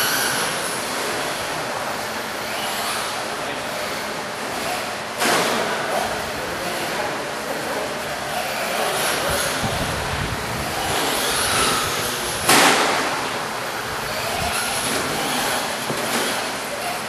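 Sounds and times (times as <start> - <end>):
rc truck driving on dirt: 0.0 - 1.8, 2.4 - 17.0.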